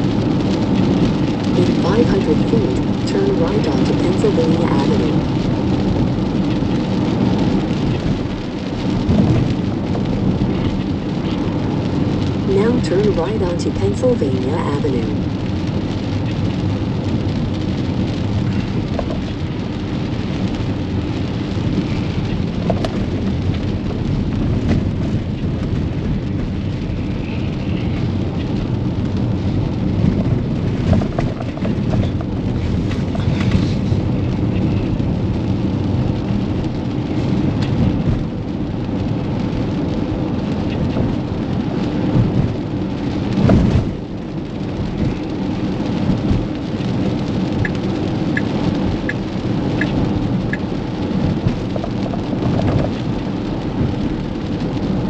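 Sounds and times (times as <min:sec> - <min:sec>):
rain on a moving car: 0:00.0 - 0:55.0
tyres hissing on wet road: 0:00.1 - 0:55.0.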